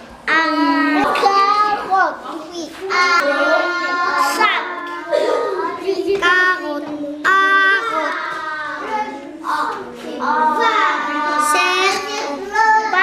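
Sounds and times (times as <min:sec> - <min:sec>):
children's sing-song voices: 0:00.0 - 0:13.0.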